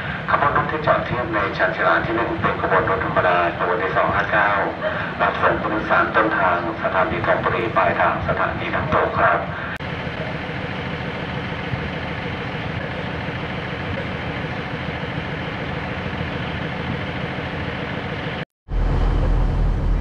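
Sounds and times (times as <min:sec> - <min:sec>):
diesel train engine idling: 0:00.0 - 0:20.0.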